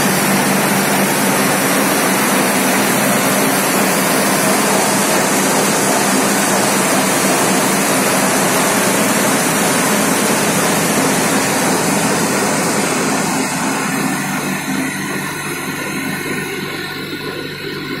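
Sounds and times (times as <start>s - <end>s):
low hum: 0.0s - 18.0s
tractor with rotary tiller droning: 0.0s - 18.0s.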